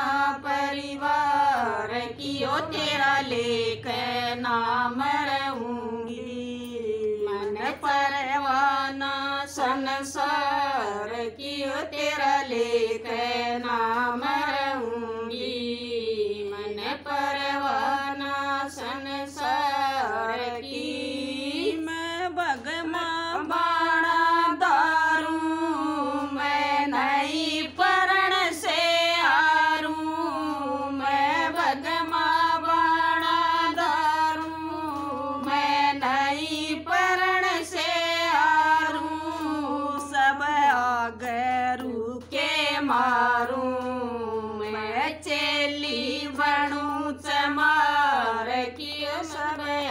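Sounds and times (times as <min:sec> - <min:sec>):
women singing together: 0:00.0 - 0:49.9.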